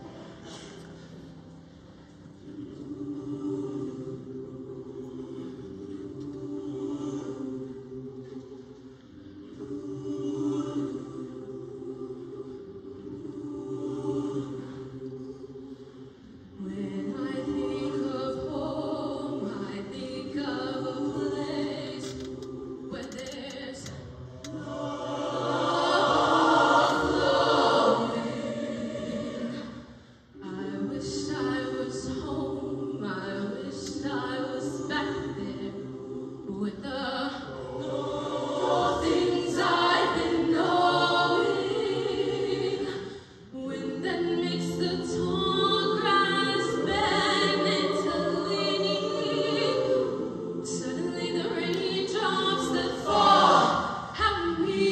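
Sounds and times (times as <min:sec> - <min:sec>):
choir singing in harmony: 0:00.0 - 0:54.9.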